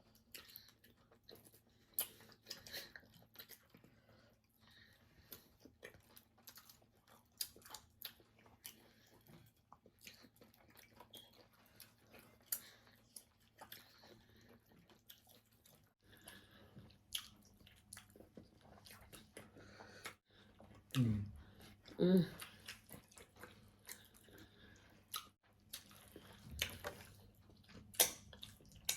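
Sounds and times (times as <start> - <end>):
chewing and lip smacking: 0.0 - 28.9.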